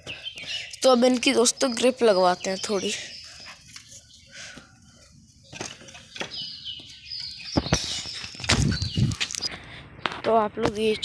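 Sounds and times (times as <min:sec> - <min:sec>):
birds calling: 0:00.0 - 0:10.2.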